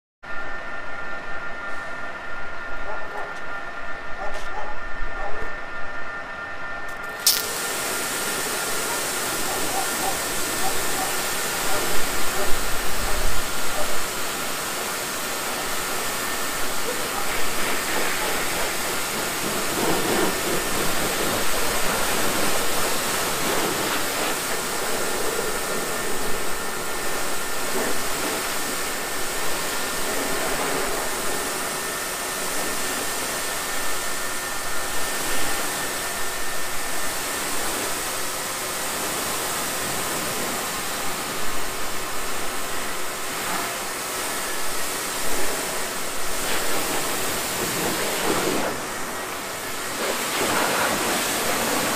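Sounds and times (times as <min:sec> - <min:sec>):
pressure washer spraying water: 0:07.1 - 0:51.9.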